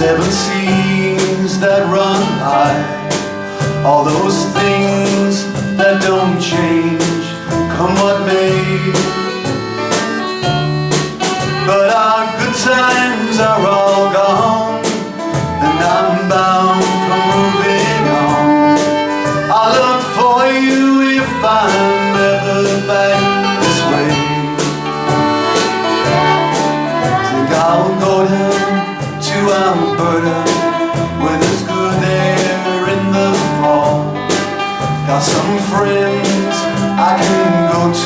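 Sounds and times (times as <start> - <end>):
person singing: 0.0 - 10.6, 11.4 - 38.0
country-folk band playing: 0.0 - 38.0.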